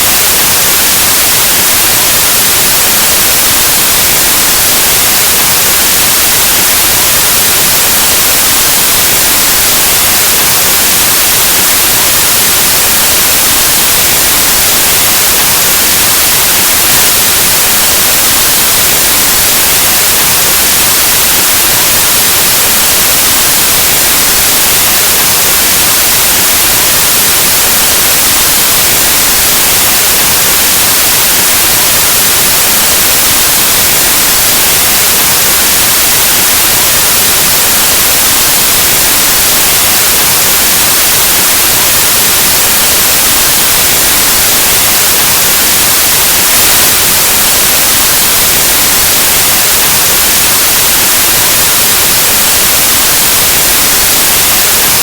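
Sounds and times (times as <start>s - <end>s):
static white noise hiss: 0.0s - 55.0s.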